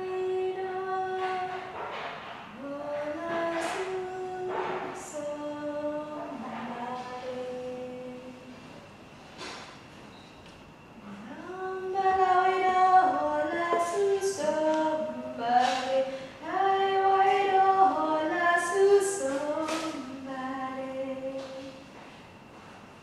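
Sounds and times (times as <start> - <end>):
woman singing unaccompanied: 0.0 - 1.8, 2.5 - 8.5, 11.0 - 21.9.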